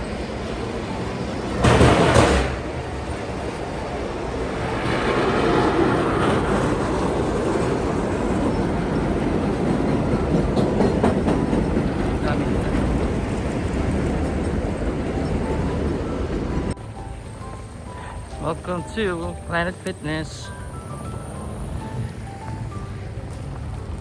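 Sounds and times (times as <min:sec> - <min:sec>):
subway train rumbling on tracks: 0:00.0 - 0:24.0.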